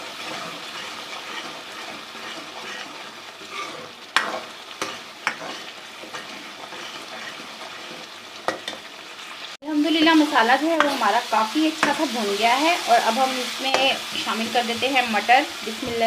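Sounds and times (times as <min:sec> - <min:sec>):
spices sizzling in oil: 0:00.0 - 0:16.0.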